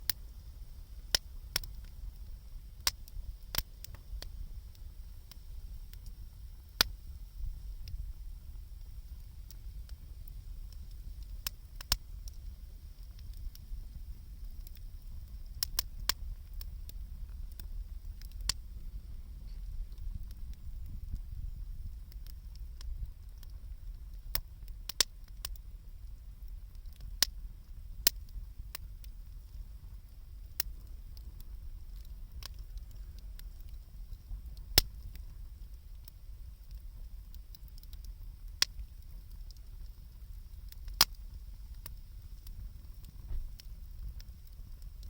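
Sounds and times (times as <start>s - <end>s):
low steady rumble: 0.0s - 45.0s
wood campfire crackling: 0.0s - 45.0s.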